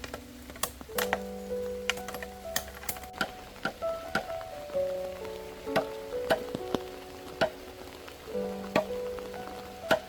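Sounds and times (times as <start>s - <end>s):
background music held notes: 0.0s - 10.0s.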